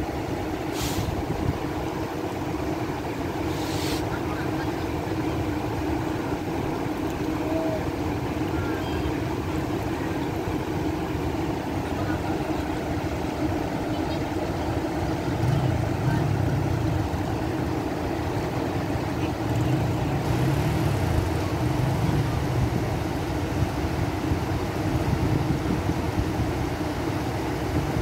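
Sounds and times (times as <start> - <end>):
floodwater rushing: 0.0 - 28.0
vehicle engine running: 0.0 - 28.0.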